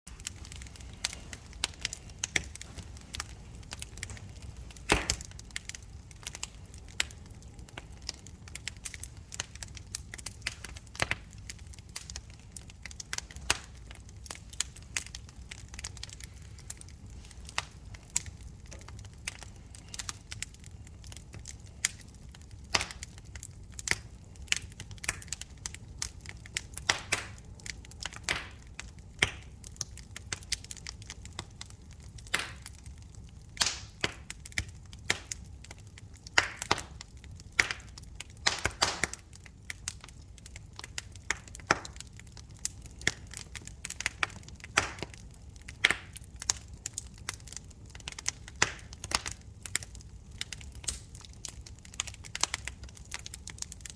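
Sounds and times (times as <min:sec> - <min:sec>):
wood fire crackling: 0:00.1 - 0:53.9.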